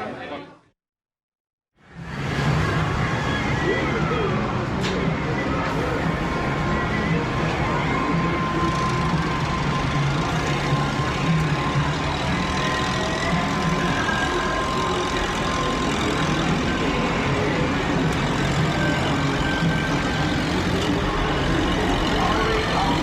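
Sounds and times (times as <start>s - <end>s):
low mechanical rumble: 1.8s - 23.0s.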